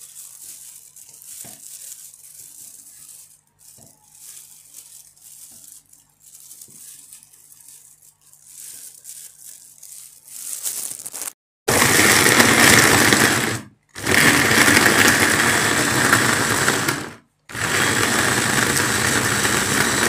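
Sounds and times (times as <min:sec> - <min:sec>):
plastic glove crinkling: 0:00.0 - 0:16.8.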